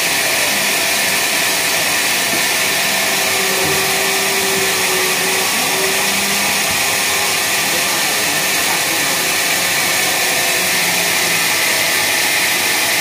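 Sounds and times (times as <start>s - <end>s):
sawmill machinery hissing: 0.0s - 13.0s.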